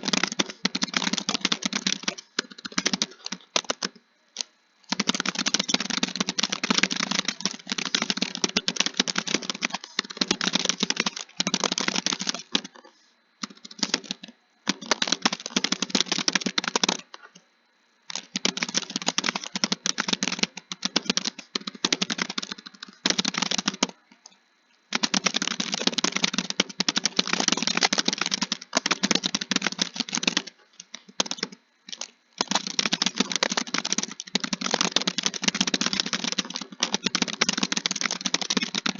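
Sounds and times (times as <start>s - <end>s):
fast keyboard typing: 0.0s - 17.3s, 18.1s - 38.9s.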